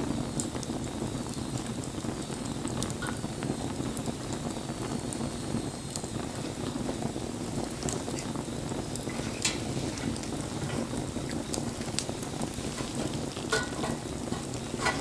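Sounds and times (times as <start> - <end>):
burning wood crackling and popping: 0.0 - 15.0
fire rushing: 0.0 - 15.0.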